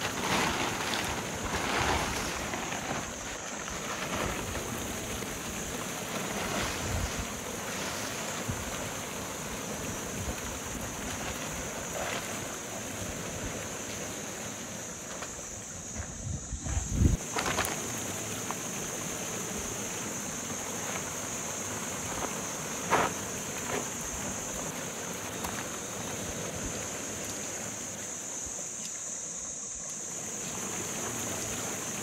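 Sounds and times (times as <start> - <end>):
tent fabric rustling on gravel: 0.0 - 19.1, 20.6 - 28.0
steady background hiss: 0.0 - 32.0.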